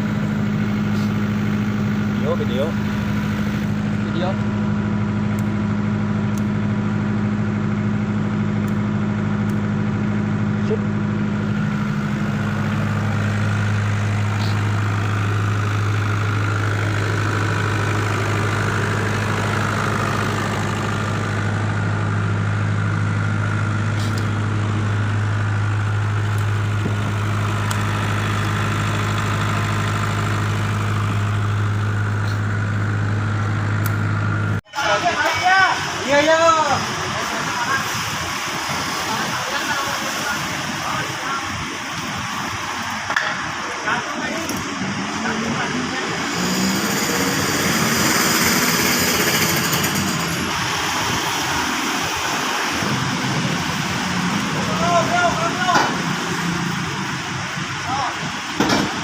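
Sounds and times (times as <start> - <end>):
diesel generator humming: 0.0 - 59.0.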